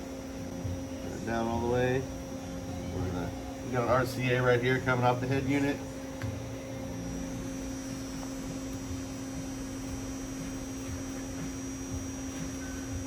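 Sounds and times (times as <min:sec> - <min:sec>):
electrical hum: 0:00.0 - 0:13.0
faint high whine: 0:00.0 - 0:13.0.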